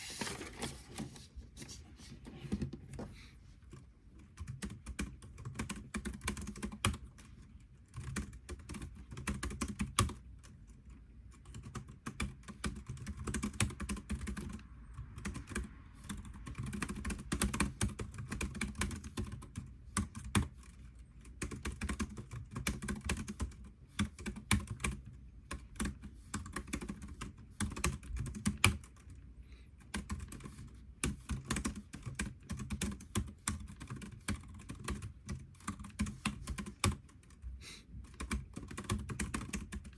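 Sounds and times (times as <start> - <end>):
computer keyboard typing: 3.7 - 29.2, 29.8 - 37.4, 38.0 - 39.9.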